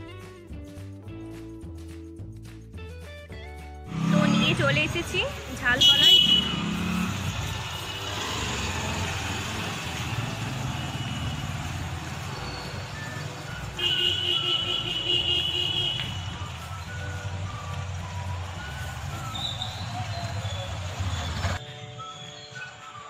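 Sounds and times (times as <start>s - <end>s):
street traffic: 3.8s - 23.0s.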